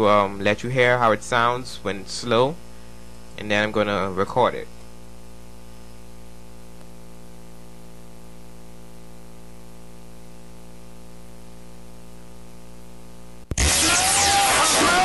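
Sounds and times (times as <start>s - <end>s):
electrical mains hum: 0.0s - 15.0s
line noise hiss: 0.0s - 15.0s.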